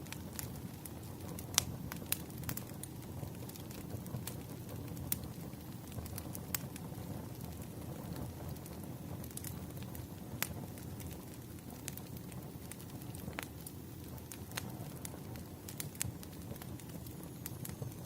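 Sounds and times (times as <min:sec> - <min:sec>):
fire crackling and popping: 0:00.0 - 0:18.0
wood fire burning: 0:00.0 - 0:18.0.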